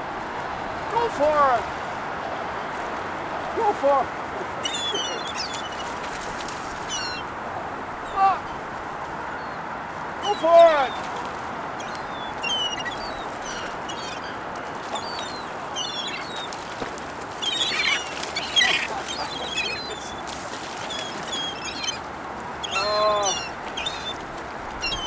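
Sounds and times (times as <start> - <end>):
gulls calling: 2.2 - 25.0.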